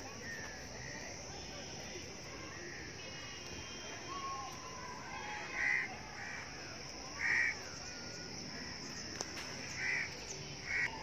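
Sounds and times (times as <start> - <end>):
faint chirps: 0.0 - 11.0
steady high hiss: 0.0 - 11.0.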